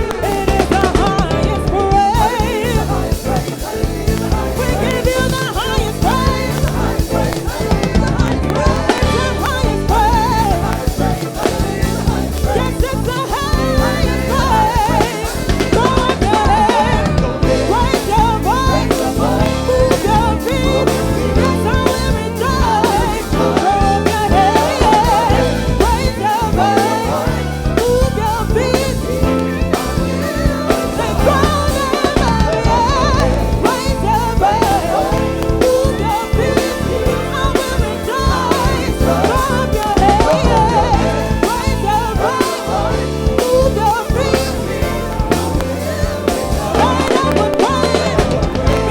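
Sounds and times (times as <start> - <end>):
drum kit and snare strokes: 0.0 - 48.9
gospel band playing: 0.0 - 48.9
people singing: 0.0 - 48.9.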